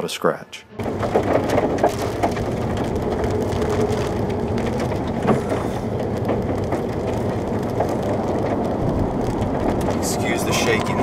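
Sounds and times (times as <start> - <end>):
vehicle road rumble: 0.7 - 11.0
rain and grit ticking: 0.8 - 11.0
tyres crunching gravel: 0.8 - 11.0.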